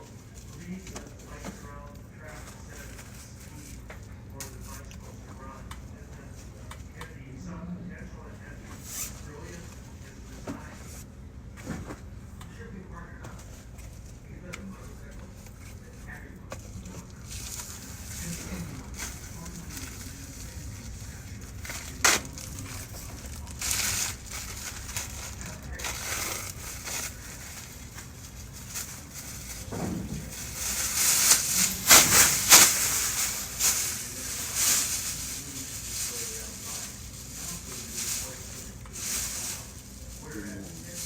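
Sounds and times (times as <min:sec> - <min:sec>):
rustling and crinkling: 0:00.0 - 0:07.3, 0:08.4 - 0:12.1, 0:12.7 - 0:41.0.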